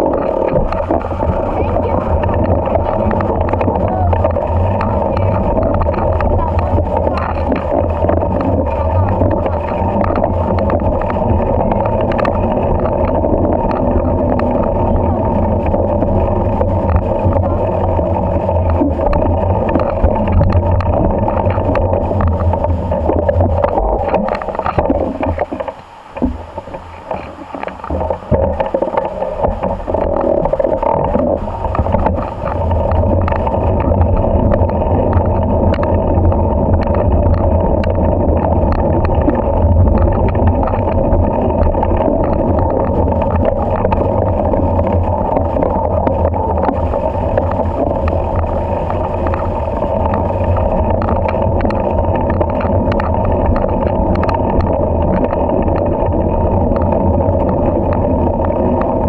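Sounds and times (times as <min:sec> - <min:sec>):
distorted bike ride rumble: 0:00.0 - 0:59.0.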